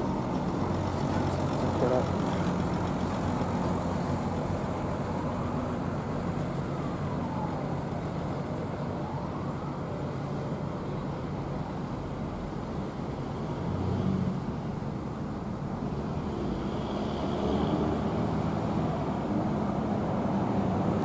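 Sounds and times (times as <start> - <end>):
diesel bus engines humming: 0.0 - 21.0
traffic noise: 0.0 - 21.0.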